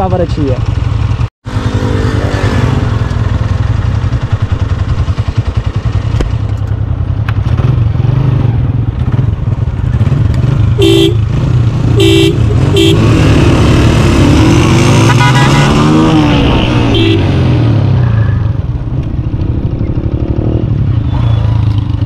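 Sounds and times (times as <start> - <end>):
motorcycle engines droning: 0.0 - 22.0.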